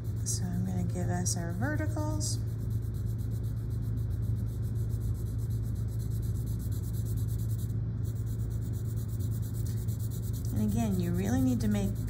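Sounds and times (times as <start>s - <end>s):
pencil scratching on paper: 0.0s - 12.0s
steady low hum: 0.0s - 12.0s.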